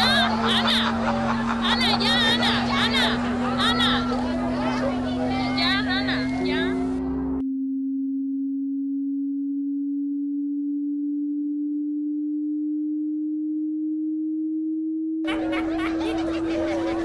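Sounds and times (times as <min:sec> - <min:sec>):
rising electronic tone: 0:00.0 - 0:17.0.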